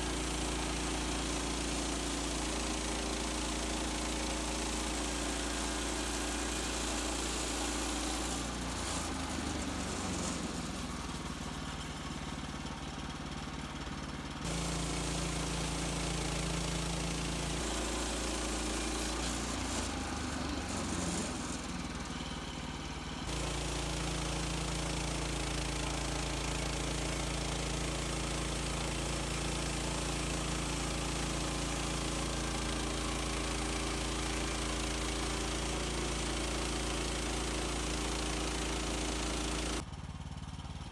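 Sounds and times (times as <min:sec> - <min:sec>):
band saw cutting log: 0:00.0 - 0:13.3, 0:14.4 - 0:39.8
sawmill engine running: 0:00.0 - 0:40.6.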